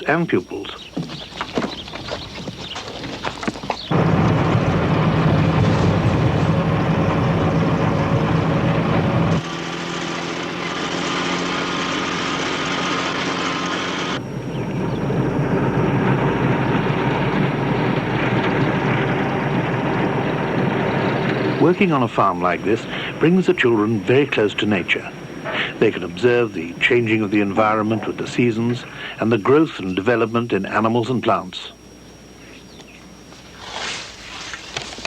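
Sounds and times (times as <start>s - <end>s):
engine droning: 1.6s - 35.0s.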